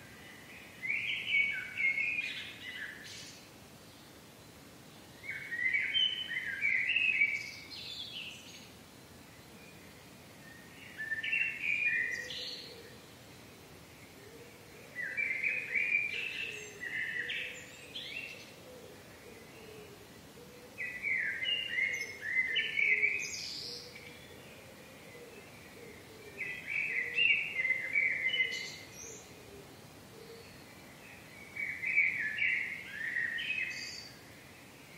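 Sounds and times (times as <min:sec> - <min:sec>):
faint background noise: 0:00.0 - 0:34.9
songbird chirping: 0:00.0 - 0:34.9.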